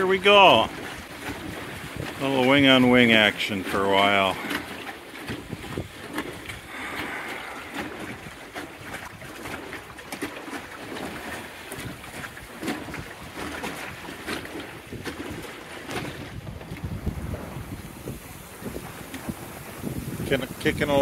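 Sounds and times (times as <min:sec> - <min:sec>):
knocks and splashes: 0:00.0 - 0:21.0
water swishing along hull: 0:00.0 - 0:21.0
wind buffeting microphone: 0:00.0 - 0:21.0.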